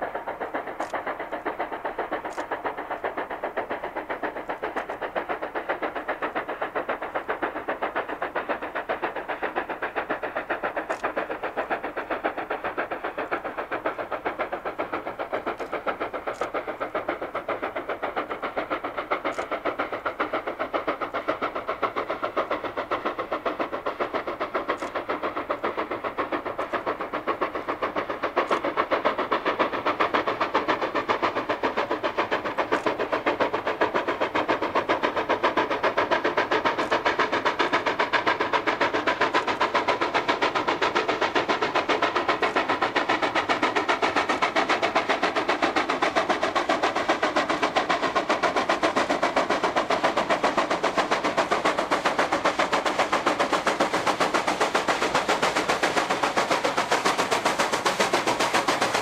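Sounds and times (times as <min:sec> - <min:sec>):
steam locomotive exhaust beating: 0:00.0 - 0:59.0.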